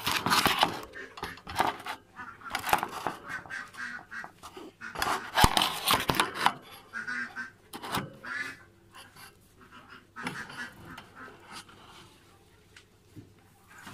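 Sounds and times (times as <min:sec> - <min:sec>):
rabbit squeaks: 0:00.0 - 0:12.4
rabbit rustling hay: 0:00.0 - 0:13.9.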